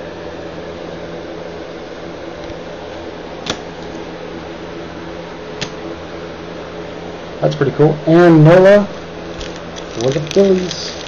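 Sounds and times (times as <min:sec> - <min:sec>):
ventilation hum: 0:00.0 - 0:11.0.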